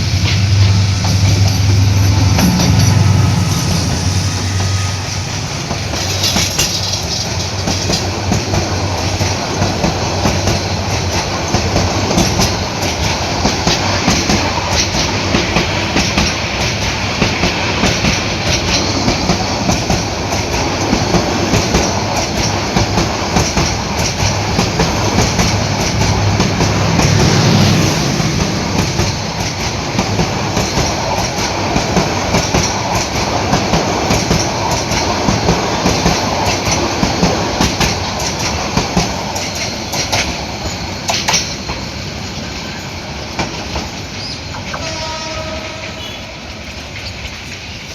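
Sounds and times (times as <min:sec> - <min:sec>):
train rumbling on rails: 0:00.0 - 0:47.9
wheels clattering over rail joints: 0:05.5 - 0:44.9.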